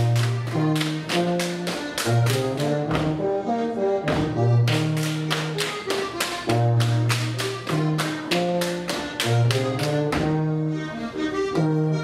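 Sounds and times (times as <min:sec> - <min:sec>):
folk dance music: 0:00.0 - 0:12.0.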